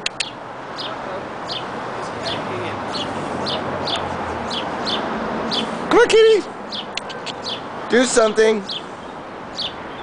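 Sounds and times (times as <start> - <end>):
small bird chirping: 0.0 - 5.7, 6.7 - 7.7, 8.6 - 10.0.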